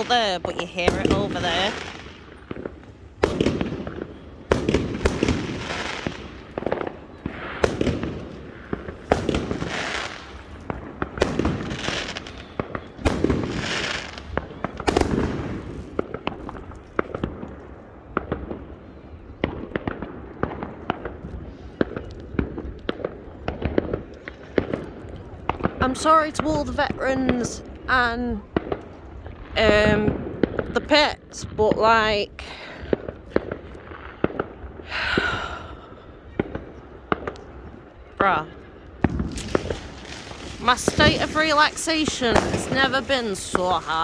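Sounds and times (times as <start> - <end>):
fireworks crackling pops: 0.0 - 32.2, 32.8 - 35.7, 36.3 - 44.0
fireworks bangs: 0.0 - 44.0.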